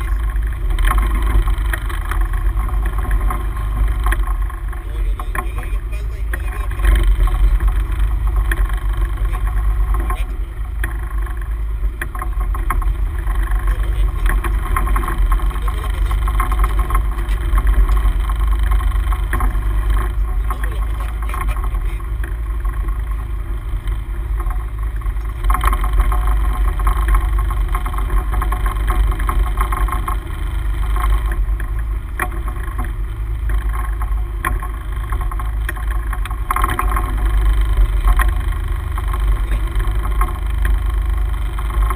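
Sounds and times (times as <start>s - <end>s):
boat engine rumble: 0.0s - 41.9s.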